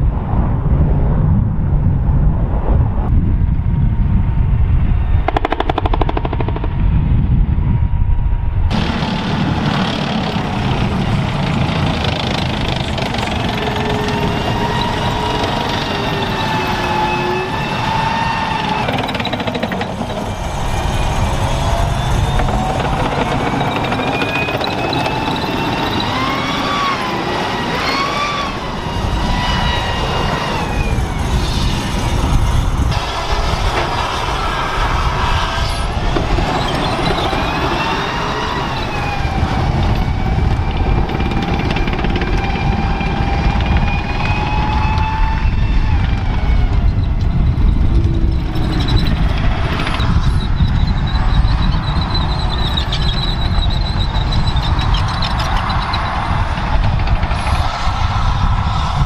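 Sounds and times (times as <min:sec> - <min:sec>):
low rumble of engine and tracks: 0:00.0 - 0:59.0
turbine engine whining: 0:02.0 - 0:59.0.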